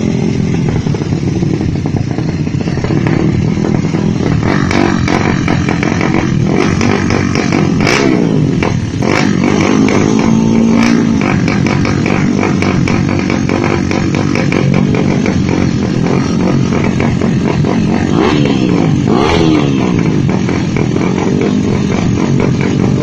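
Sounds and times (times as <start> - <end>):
engine crackles: 0.0 - 23.0
motorcycle engine revving: 0.0 - 23.0.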